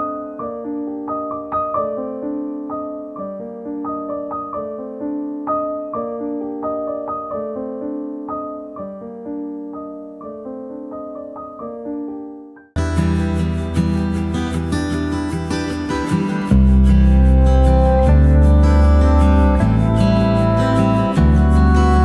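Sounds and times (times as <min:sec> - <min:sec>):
slow piano melody: 0:00.0 - 0:22.0.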